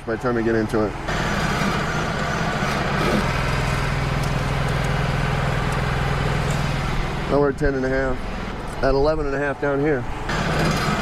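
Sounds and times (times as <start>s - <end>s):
sawmill engine running: 0.4s - 11.0s.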